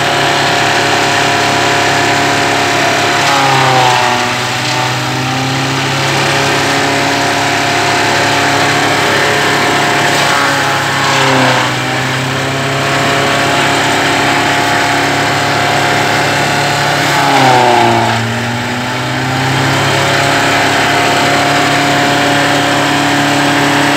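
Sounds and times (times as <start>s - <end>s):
tractor and straw chopper running: 0.0s - 23.9s.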